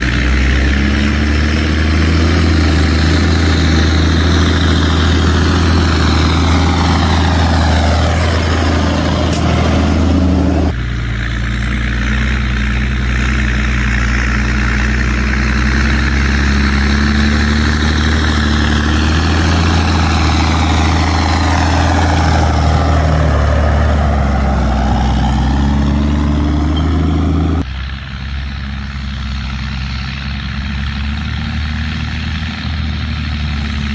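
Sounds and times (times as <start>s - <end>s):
engine whine: 0.0s - 33.9s
tractor diesel engine drone: 0.0s - 33.9s.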